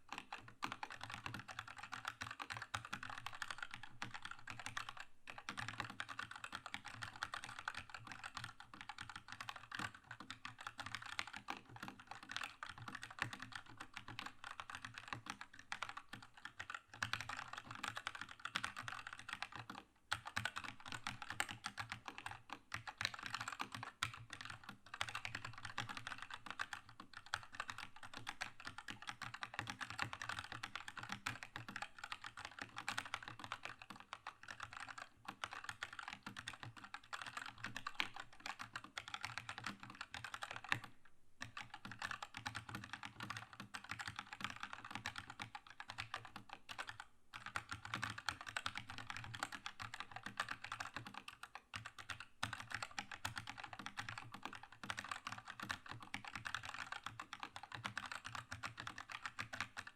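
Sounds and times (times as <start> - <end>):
mechanical keyboard typing: 0.1 - 59.9.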